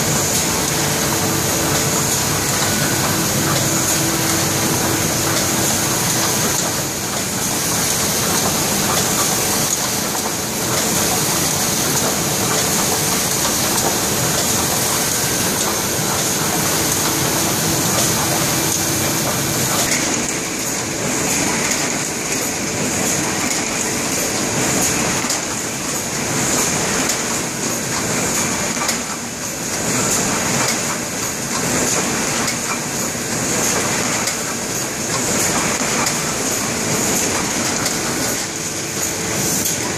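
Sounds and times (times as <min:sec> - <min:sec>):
printing presses clattering: 0:00.0 - 0:39.9.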